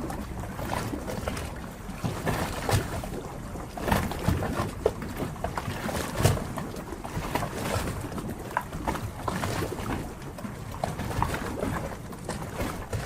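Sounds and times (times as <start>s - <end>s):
small splashes and knocks: 0.0s - 13.0s
water lapping and sloshing: 0.0s - 13.0s.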